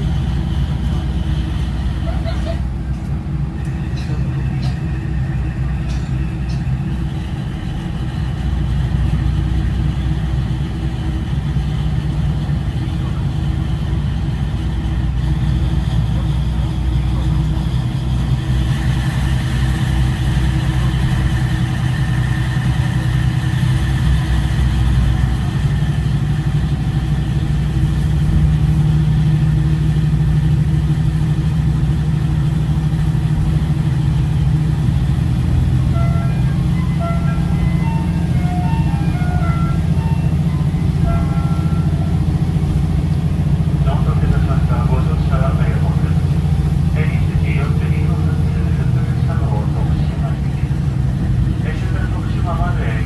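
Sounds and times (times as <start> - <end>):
diesel railcar engine idling: 0.0 - 53.0.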